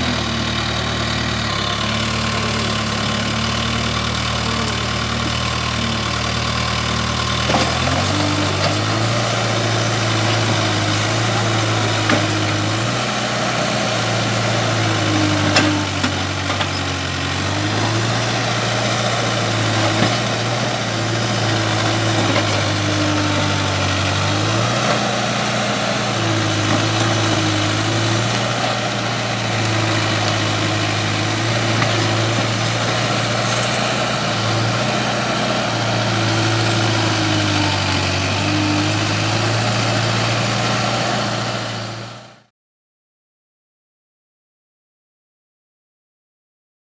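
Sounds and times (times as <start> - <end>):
diesel engine working: 0.0 - 42.5.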